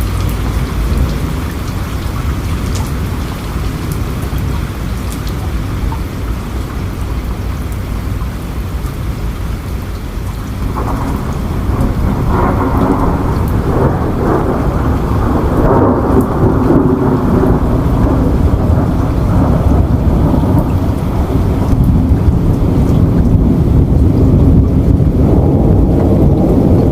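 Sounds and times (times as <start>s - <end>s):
steady rain: 0.0s - 26.9s
thunder rumbling: 0.0s - 26.9s.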